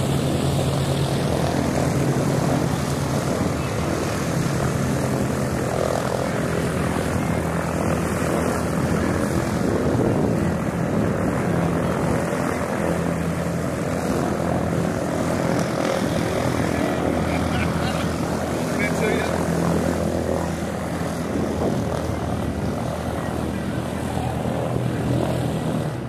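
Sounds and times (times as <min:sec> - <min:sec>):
propeller plane droning overhead: 0:00.0 - 0:26.0.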